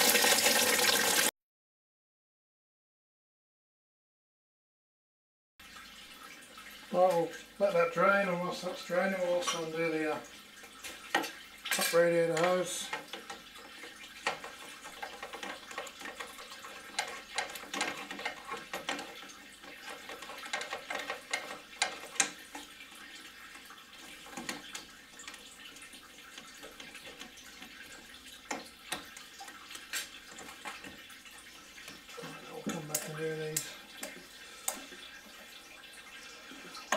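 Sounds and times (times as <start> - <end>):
liquid draining from radiator: 0.0 - 1.3, 5.6 - 36.9.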